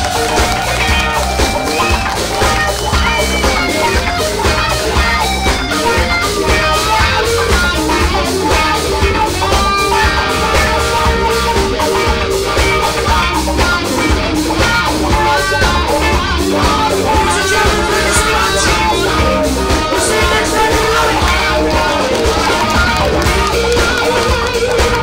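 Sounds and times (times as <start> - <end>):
blues-rock band playing live: 0.0 - 25.0
electric guitar bending notes: 0.0 - 25.0.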